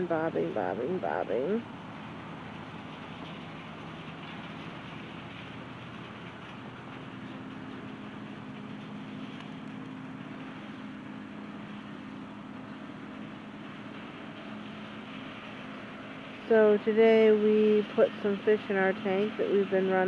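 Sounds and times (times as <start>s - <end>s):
constant hiss: 0.0s - 20.0s
motor engine humming: 0.0s - 20.0s.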